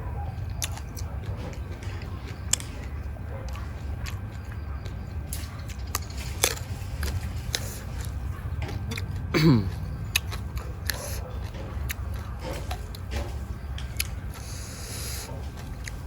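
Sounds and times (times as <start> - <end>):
chewing clicks and crunches: 0.1 - 16.0.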